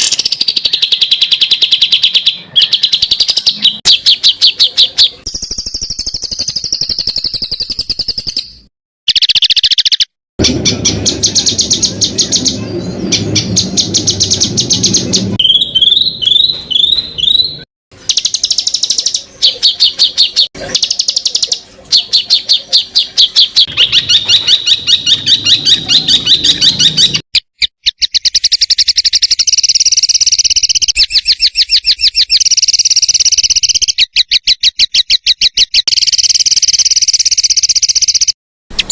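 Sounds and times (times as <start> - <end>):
songbird singing rapid notes: 0.0 - 38.9.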